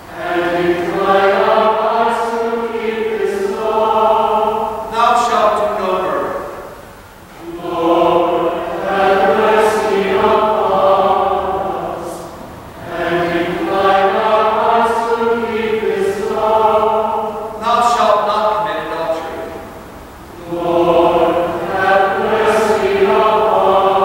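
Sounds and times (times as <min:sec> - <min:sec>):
choir and congregation singing: 0:00.0 - 0:24.0.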